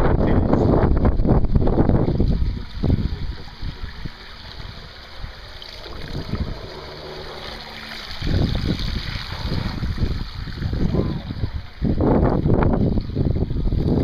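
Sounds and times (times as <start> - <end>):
low steady hum: 0.0 - 14.0
wind buffeting microphone: 0.0 - 14.0.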